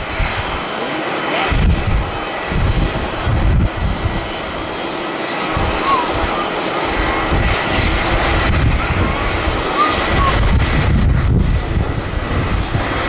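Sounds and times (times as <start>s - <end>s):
wind buffeting microphone: 0.0s - 0.7s, 1.4s - 13.0s
jet engines roaring: 0.0s - 13.0s.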